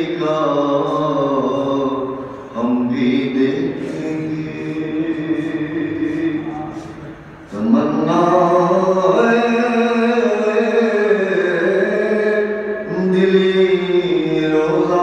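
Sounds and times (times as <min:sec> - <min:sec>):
man chanting an elegy unaccompanied: 0:00.0 - 0:15.0.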